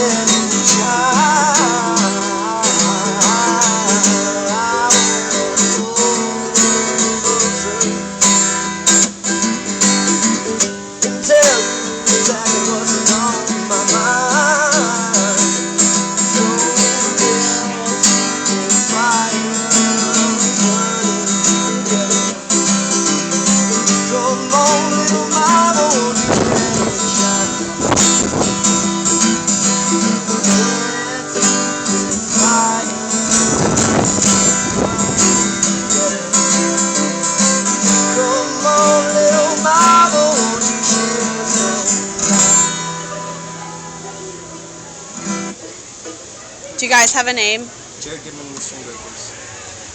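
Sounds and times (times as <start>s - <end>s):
sliding melody line: 0.0s - 43.6s
strummed acoustic guitar: 0.0s - 49.9s.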